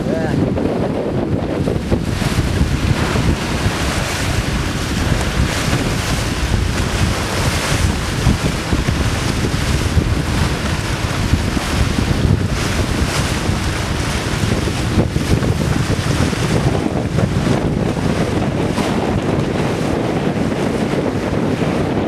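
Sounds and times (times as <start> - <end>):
waves rushing along boat hulls: 0.0 - 22.0
wind buffeting microphone: 0.0 - 22.0.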